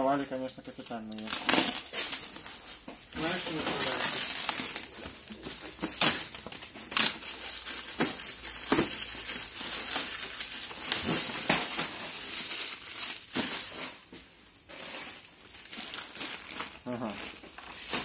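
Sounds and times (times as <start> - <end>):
plastic wrapping crinkling: 0.0 - 18.0
sharp plastic crackle: 0.4 - 18.0.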